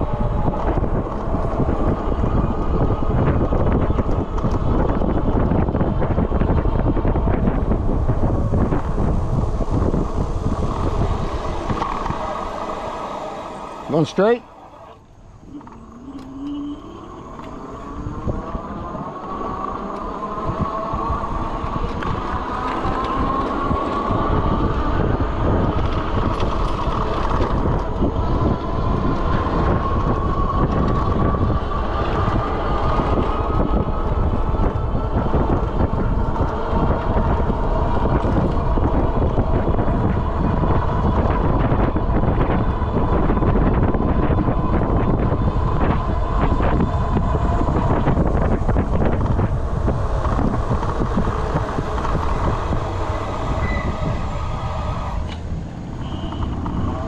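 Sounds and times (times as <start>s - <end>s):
electric bike motor whining: 0.0s - 57.0s
tyres rumbling on rough asphalt: 0.0s - 57.0s
wind buffeting microphone: 0.0s - 57.0s.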